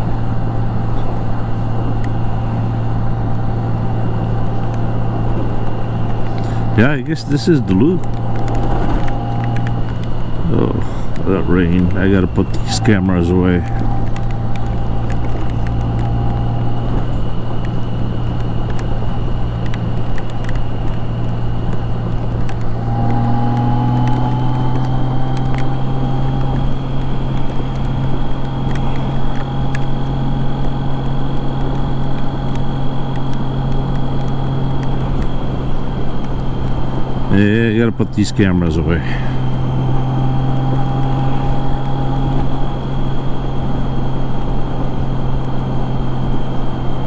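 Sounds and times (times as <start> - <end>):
motorcycle engine drone: 0.0 - 47.0
road noise: 0.0 - 47.0.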